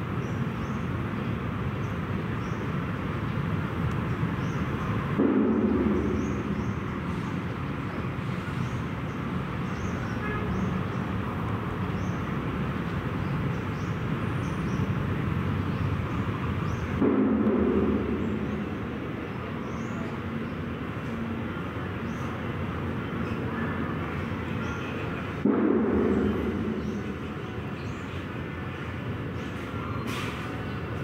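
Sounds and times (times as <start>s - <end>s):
distant traffic rumble: 0.0s - 31.0s.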